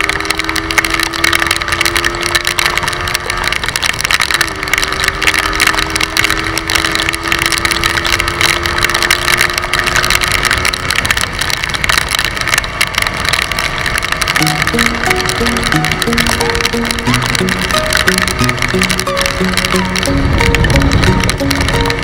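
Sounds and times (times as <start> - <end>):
scooter engine drone: 0.0 - 22.0.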